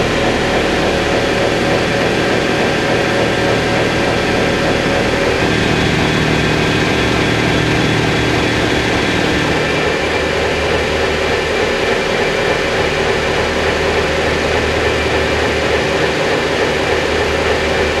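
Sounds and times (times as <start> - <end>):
wind tunnel air rushing: 0.0 - 17.5
constant fan tone: 0.0 - 18.0.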